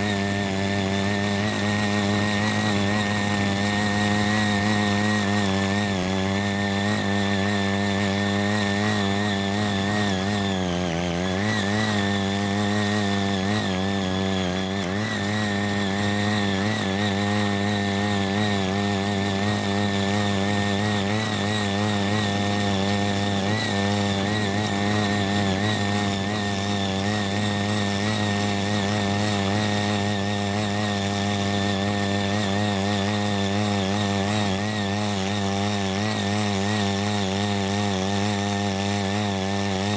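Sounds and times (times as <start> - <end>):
tiller engine running: 0.0 - 39.9
tines digging soil: 0.0 - 39.9.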